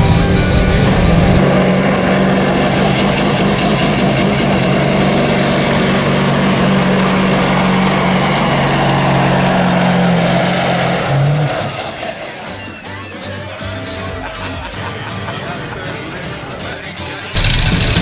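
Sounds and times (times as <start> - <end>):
heavy engine at high revs: 0.0 - 18.0.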